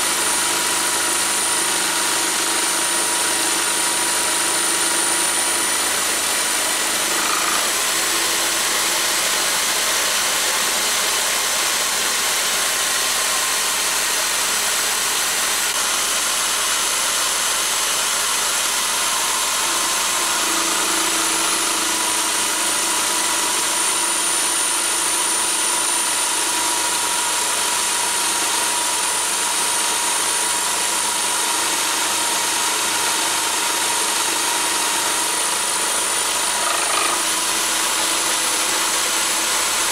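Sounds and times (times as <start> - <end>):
electric drill milling steel: 0.0 - 39.9.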